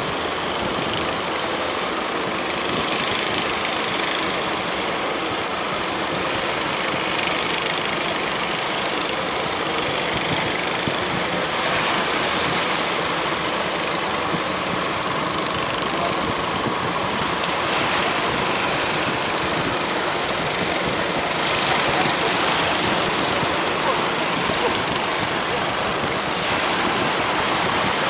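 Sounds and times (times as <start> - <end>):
sea waves breaking: 0.0 - 28.0.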